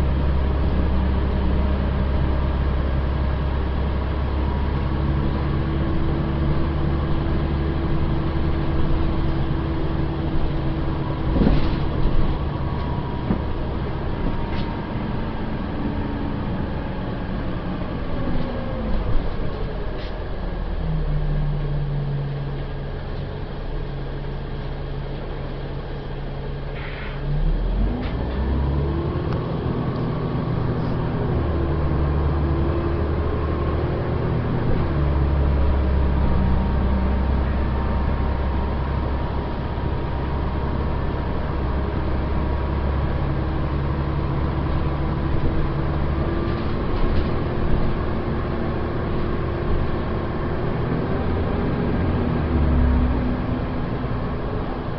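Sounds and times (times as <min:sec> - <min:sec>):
bus engine humming: 0:00.0 - 0:54.9.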